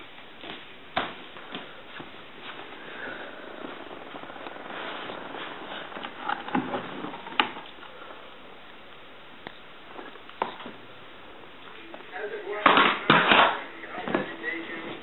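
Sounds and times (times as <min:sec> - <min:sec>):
cushions and clothing rustling: 0:00.0 - 0:15.0
low room hiss: 0:00.0 - 0:15.0.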